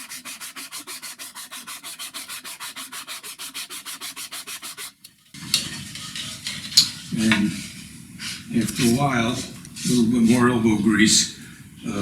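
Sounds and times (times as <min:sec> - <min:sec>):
wood scratching on sandpaper: 0:00.0 - 0:10.2.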